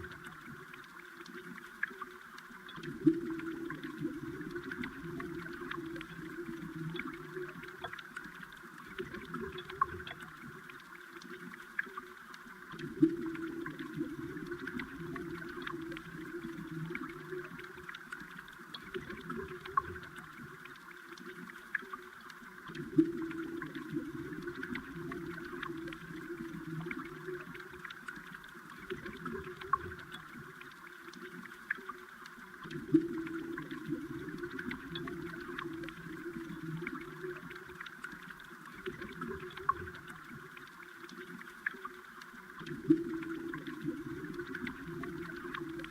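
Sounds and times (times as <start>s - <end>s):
small ticks and clicks: 0.0s - 45.9s
underwater gurgling water rush: 0.0s - 45.9s.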